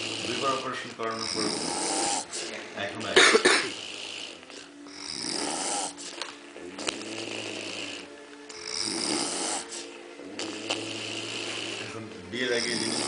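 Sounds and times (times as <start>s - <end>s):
person snoring: 0.0s - 13.0s.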